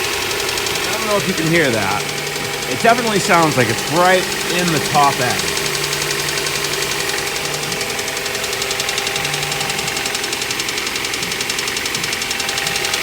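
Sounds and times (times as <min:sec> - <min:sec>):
car engine idling: 0:00.0 - 0:13.0
rapid engine knock: 0:00.0 - 0:13.0.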